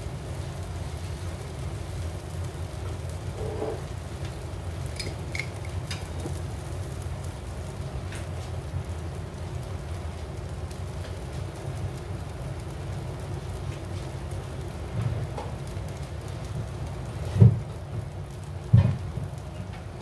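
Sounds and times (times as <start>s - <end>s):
sharp crackles: 0.0s - 20.0s
tortillas sizzling in frying pan: 0.0s - 20.0s.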